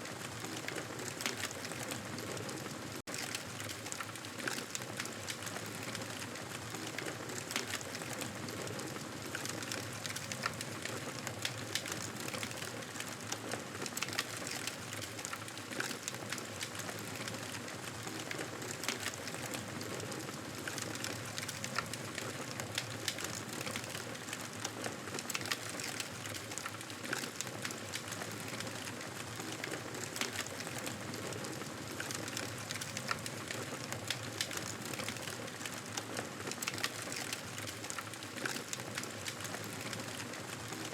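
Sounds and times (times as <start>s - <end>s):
wood fire crackling: 0.1s - 40.9s.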